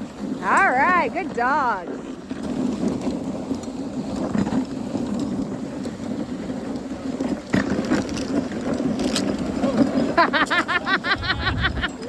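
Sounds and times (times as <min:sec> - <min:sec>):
sled runners sliding on snow: 0:00.0 - 0:12.0.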